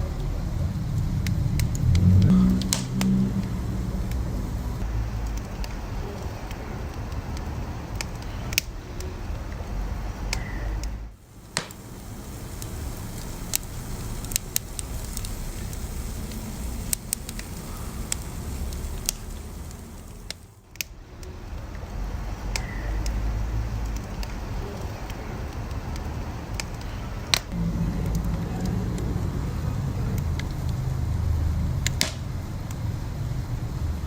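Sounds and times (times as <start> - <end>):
fire crackles and pops: 0.0 - 34.0
low rumble of flames: 0.0 - 34.0.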